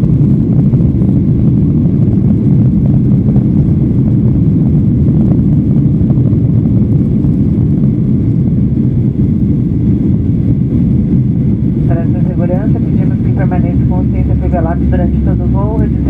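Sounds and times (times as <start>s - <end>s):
airliner cabin roar: 0.0s - 16.0s.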